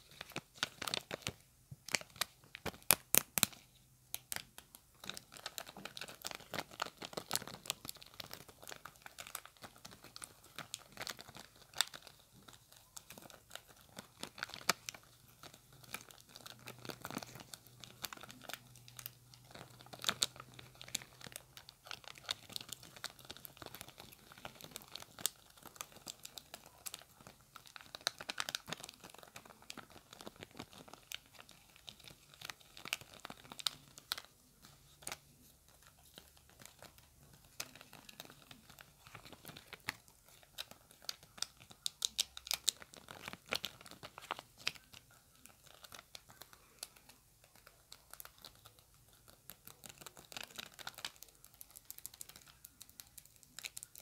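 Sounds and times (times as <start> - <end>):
fingernails crinkling plastic sheet: 0.0 - 54.0.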